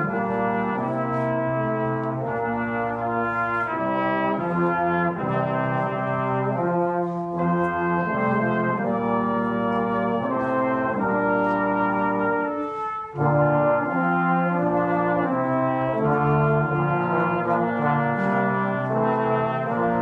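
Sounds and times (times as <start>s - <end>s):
brass ensemble playing chords: 0.0s - 20.0s.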